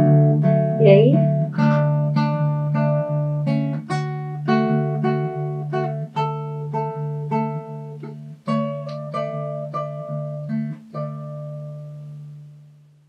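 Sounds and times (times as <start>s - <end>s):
classical guitar plucked melody: 0.0s - 13.0s.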